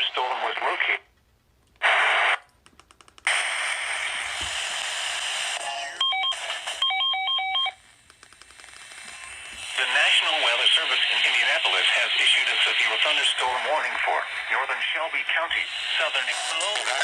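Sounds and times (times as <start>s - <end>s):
radio static hiss: 0.0s - 1.1s, 1.8s - 2.4s, 3.2s - 6.9s, 7.8s - 17.0s.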